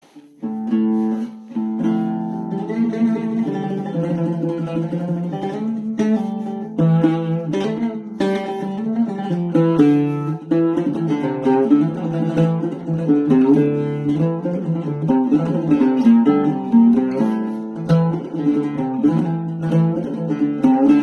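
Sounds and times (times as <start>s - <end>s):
oud playing solo: 0.0s - 21.0s.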